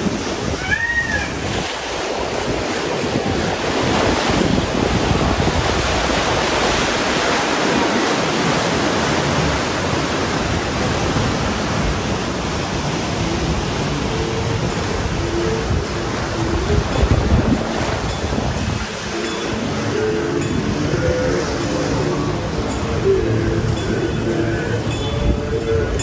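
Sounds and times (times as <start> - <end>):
wind buffeting microphone: 0.0 - 24.2
whitewater rushing: 0.0 - 26.0.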